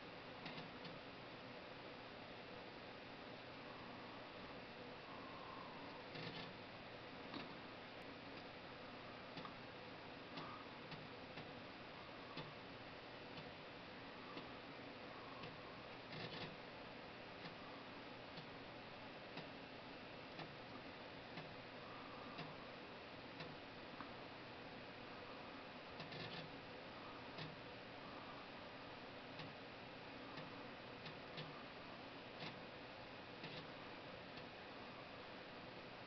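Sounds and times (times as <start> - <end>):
faint irregular ticks and clicks: 0.4 - 1.1, 5.0 - 13.6, 14.2 - 16.7, 17.3 - 19.6, 20.2 - 36.0.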